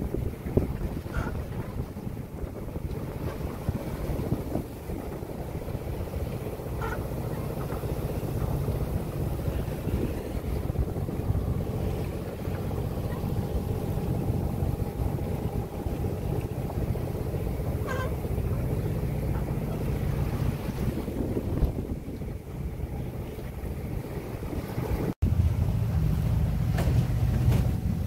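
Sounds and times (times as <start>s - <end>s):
water rushing along boat hull: 0.0s - 28.0s
wind buffeting microphone: 0.0s - 28.0s.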